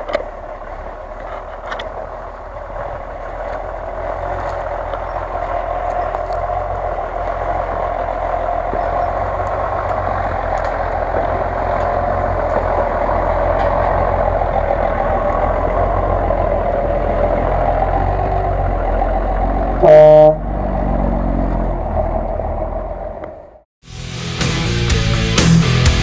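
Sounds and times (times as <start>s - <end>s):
engine running under load: 0.0s - 26.0s.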